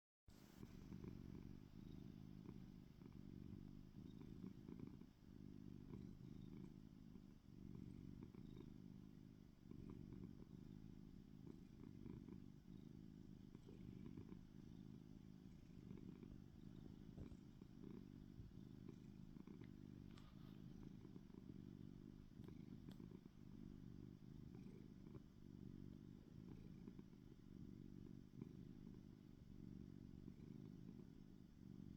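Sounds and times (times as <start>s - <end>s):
cat purring: 0.3s - 31.9s.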